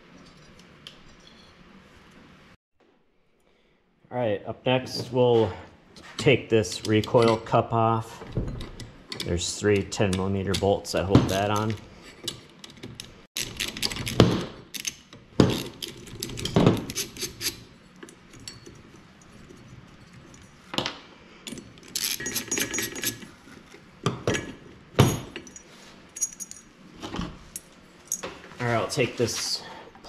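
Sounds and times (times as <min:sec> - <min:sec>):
tools and bolts clinking on metal: 0:00.0 - 0:02.2, 0:06.0 - 0:29.4.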